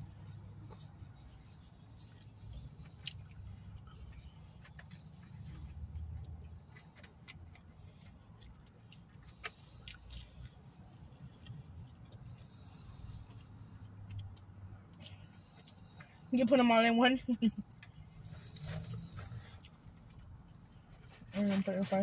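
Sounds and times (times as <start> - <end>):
low rumble inside car: 0.0 - 22.0.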